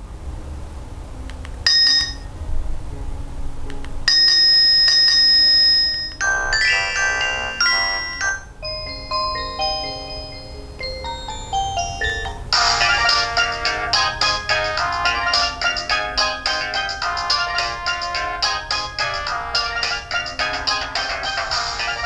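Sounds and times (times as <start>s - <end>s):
phone ringtones and alert tones: 1.7s - 2.2s, 4.1s - 22.0s.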